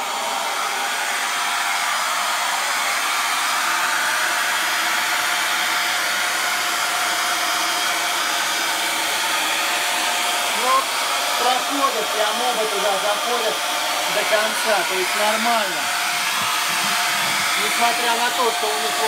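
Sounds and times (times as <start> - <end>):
vacuum cleaners running: 0.0 - 19.0.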